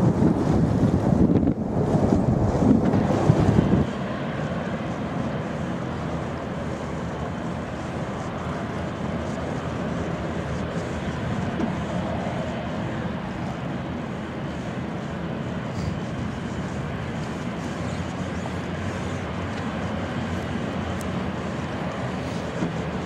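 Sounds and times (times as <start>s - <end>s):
jet engines running at low power: 0.0s - 23.0s
wind rumble on microphone: 0.0s - 23.0s.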